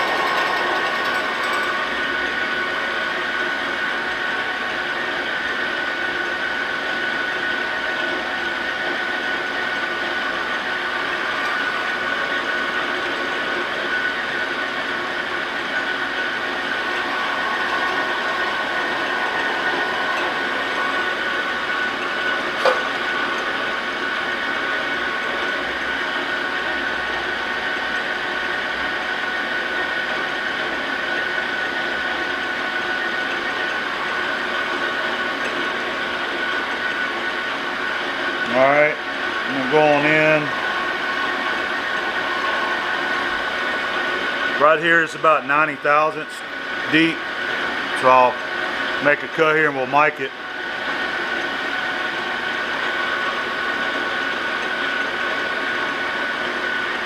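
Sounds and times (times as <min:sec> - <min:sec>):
lathe running with high whine: 0:00.0 - 0:57.0.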